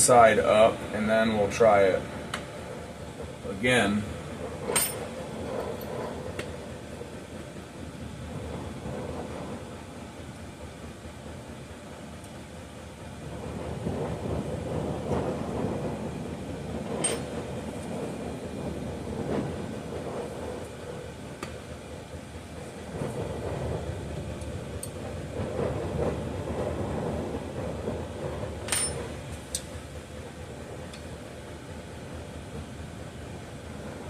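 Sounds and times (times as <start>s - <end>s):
low rumbling noise: 0.0s - 34.0s.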